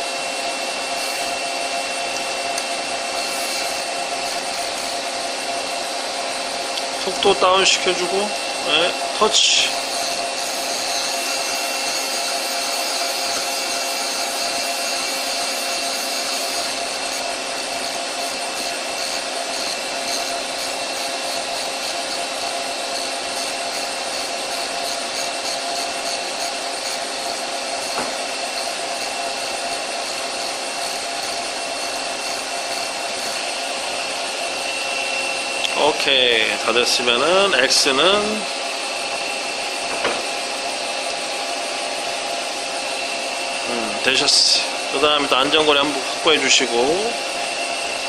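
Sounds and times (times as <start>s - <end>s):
lathe running: 0.0s - 48.0s.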